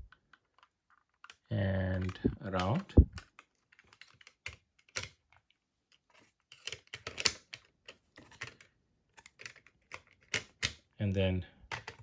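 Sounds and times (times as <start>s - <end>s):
plastic pieces clicking and tapping: 0.0s - 5.4s, 6.5s - 10.9s, 11.7s - 12.0s.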